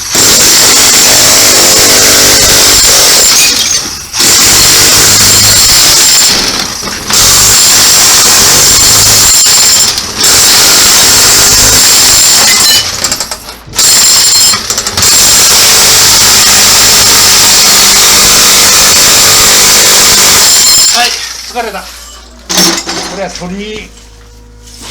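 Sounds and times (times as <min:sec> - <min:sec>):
demolition hammer chipping tiles: 0:00.0 - 0:23.5.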